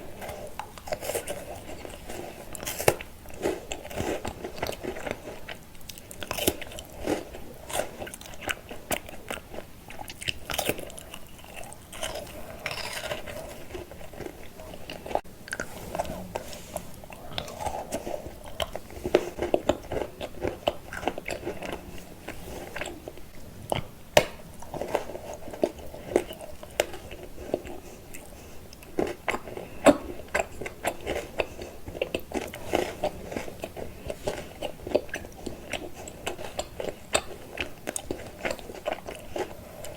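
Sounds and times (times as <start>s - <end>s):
chewing and crunching chocolate: 0.0s - 39.9s.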